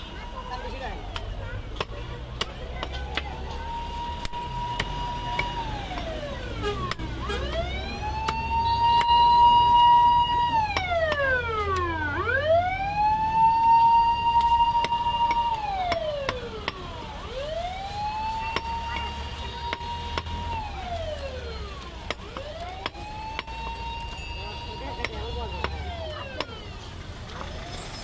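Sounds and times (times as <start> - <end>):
siren wailing: 2.9 - 27.9.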